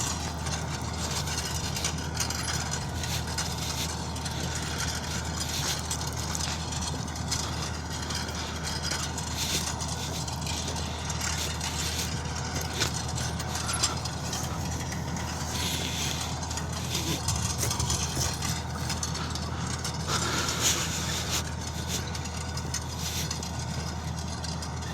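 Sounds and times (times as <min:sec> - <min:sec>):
metallic rattles and clicks: 0:00.0 - 0:24.9
tractor diesel engine running: 0:00.0 - 0:24.9.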